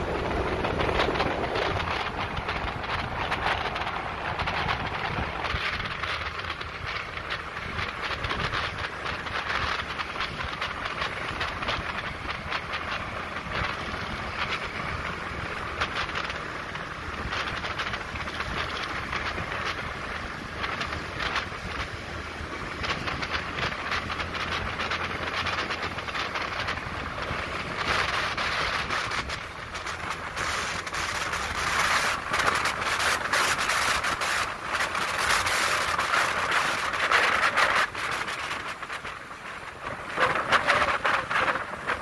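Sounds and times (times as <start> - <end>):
low engine hum: 0.0 - 42.0
wind buffeting microphone: 0.0 - 42.0.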